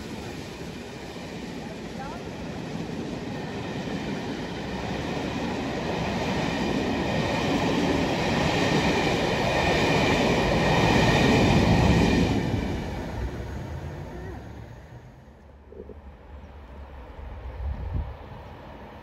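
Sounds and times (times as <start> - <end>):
train coaches passing: 0.0 - 19.0.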